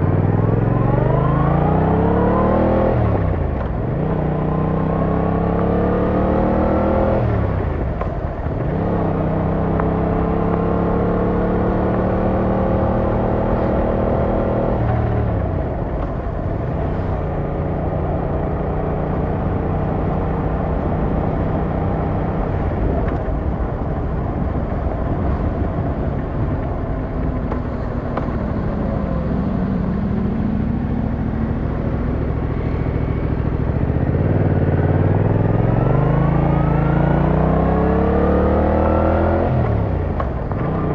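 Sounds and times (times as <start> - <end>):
motorcycle engine revving: 0.0 - 40.9
road noise: 0.0 - 40.9
rushing wind: 0.0 - 40.9.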